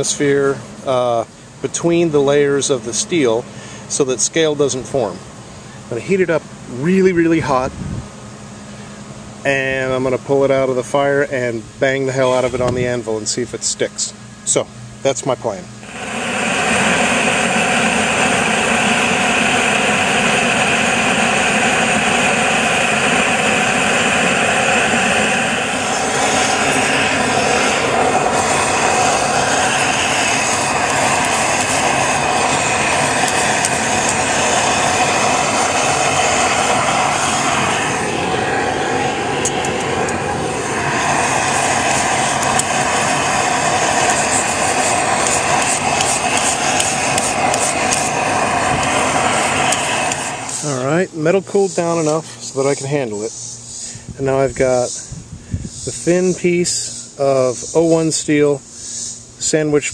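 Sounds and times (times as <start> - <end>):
forge air blower rushing: 0.0 - 59.9.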